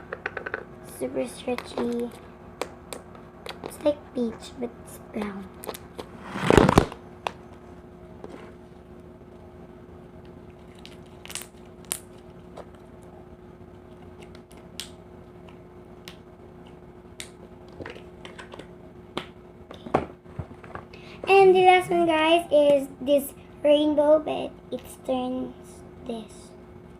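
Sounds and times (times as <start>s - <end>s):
faint low hum: 0.0s - 26.9s.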